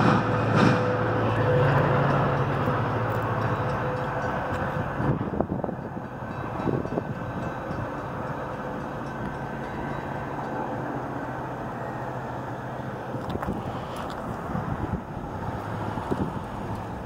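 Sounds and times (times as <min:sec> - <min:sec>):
diesel engine hum: 0:00.0 - 0:17.0
train wheels rumbling on rail: 0:00.0 - 0:17.0.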